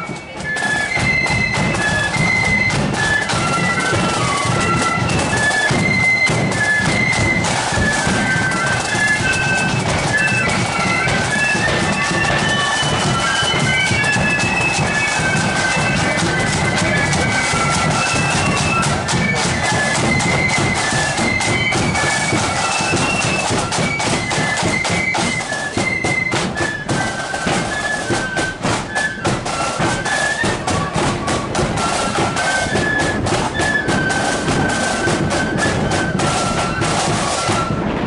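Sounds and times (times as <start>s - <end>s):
drum beats: 0.0s - 38.0s
flute melody: 0.0s - 38.0s.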